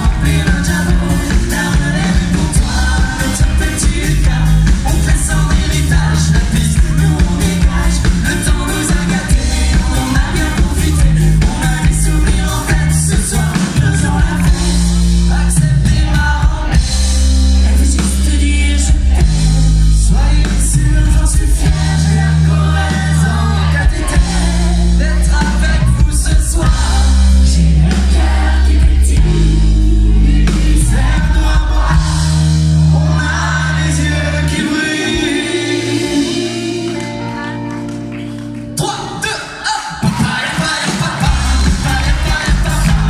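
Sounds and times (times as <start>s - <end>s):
heavy sustained bass notes: 0.0s - 37.0s, 41.2s - 43.0s
live pop band with singers: 0.0s - 43.0s.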